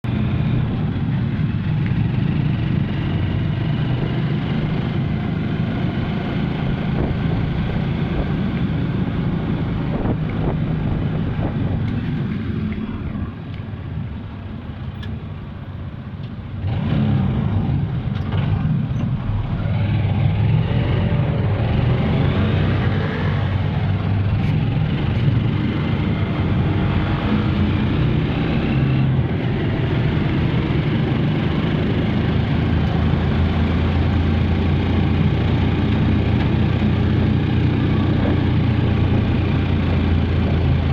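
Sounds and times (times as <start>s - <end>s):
motor vehicle running: 0.0s - 40.9s.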